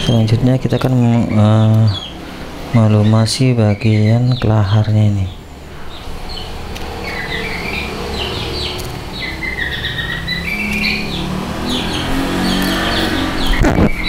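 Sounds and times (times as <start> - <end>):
low engine rumble: 0.0 - 14.0
small birds chirping: 0.0 - 14.0.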